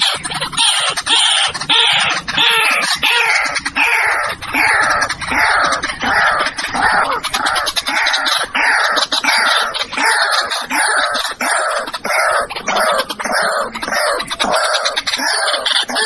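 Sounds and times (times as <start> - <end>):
waterhen calling: 0.0 - 16.0.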